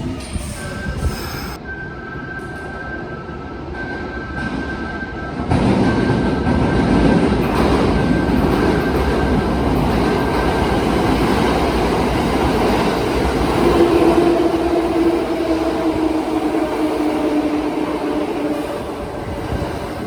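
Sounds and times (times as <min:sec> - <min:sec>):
train wheels rumbling: 0:00.0 - 0:20.0
train whine: 0:00.0 - 0:20.0.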